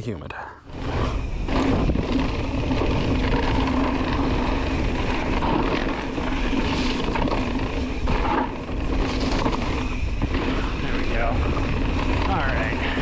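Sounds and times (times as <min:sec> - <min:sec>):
bike tyre and drivetrain noise: 0:00.6 - 0:13.0.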